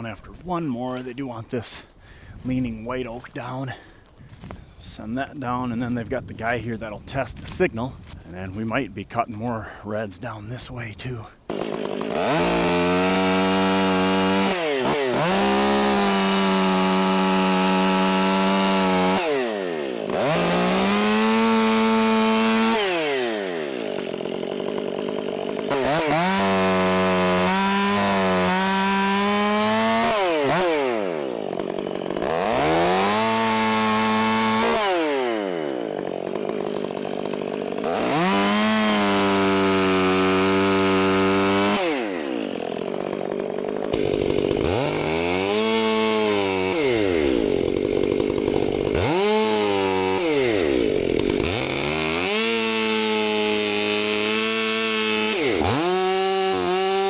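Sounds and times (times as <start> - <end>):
chainsaw cutting wood: 0.0 - 8.7, 11.4 - 57.0.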